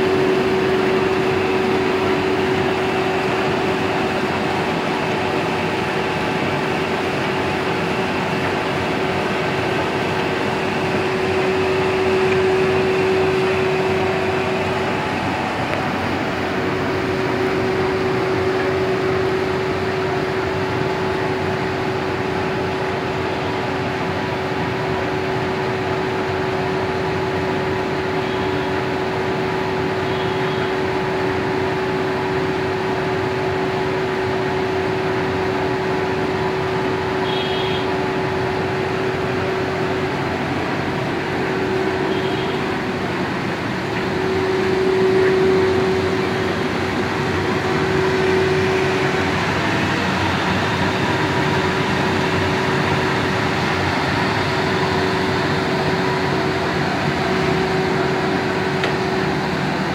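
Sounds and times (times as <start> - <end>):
printing press running: 0.0 - 59.9.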